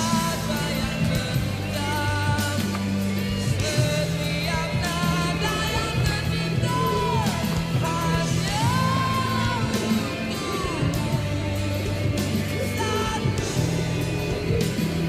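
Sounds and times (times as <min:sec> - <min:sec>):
pop song with sung vocal: 0:00.0 - 0:15.0.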